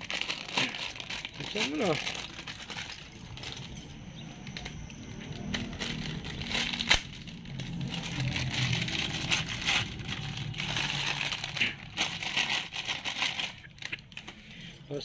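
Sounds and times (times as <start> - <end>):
plastic bag crinkling: 0.0 - 14.5.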